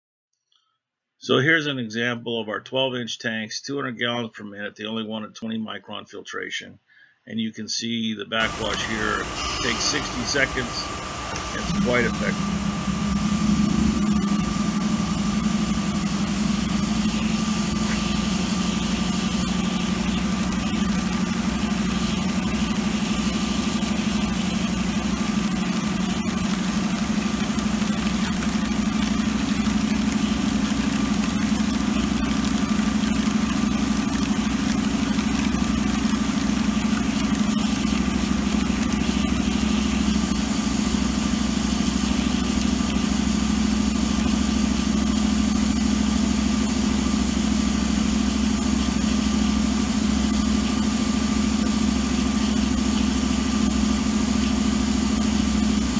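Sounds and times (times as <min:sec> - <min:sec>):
pump machinery hum: 0:08.4 - 0:55.9
thin constant whine: 0:08.4 - 0:55.9.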